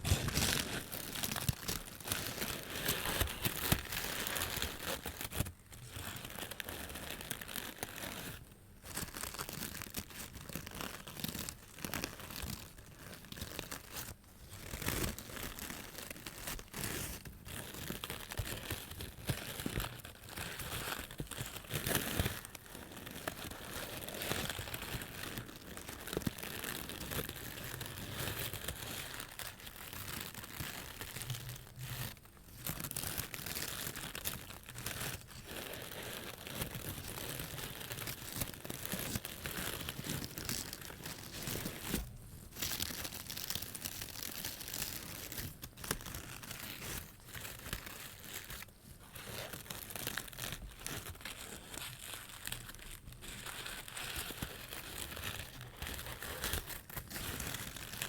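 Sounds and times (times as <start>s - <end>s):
crinkly material crumpling: 0.0s - 58.0s.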